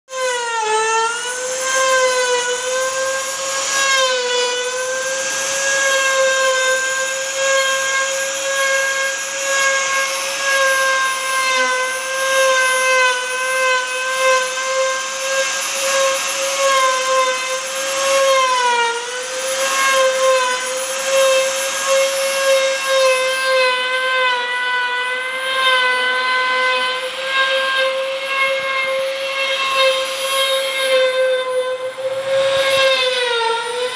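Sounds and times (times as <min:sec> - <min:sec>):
router spindle whining carving wood: 0:00.1 - 0:33.9.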